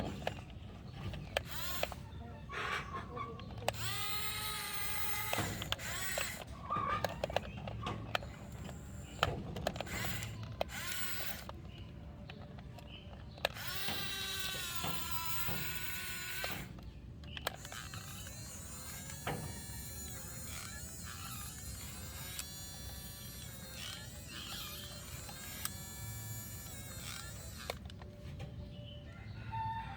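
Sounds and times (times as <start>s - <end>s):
small electric motor whirring: 0.0s - 2.4s, 3.3s - 28.8s.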